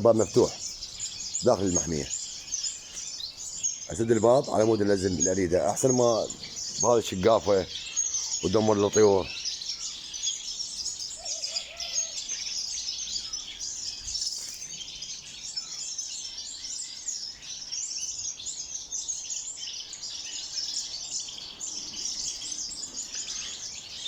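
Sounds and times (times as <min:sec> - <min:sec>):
finches chirping and chattering: 0:00.0 - 0:24.0.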